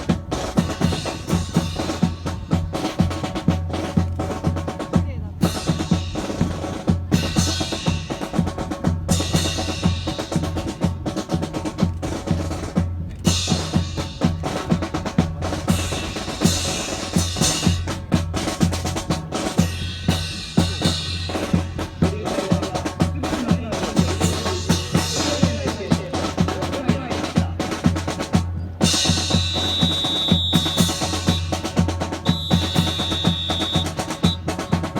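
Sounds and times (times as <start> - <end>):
drum-led percussion music: 0.0 - 34.9.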